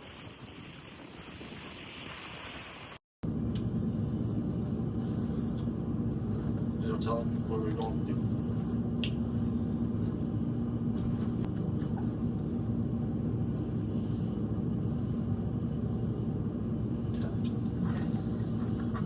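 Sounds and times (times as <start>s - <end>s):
low rumble with hum: 3.2s - 19.0s.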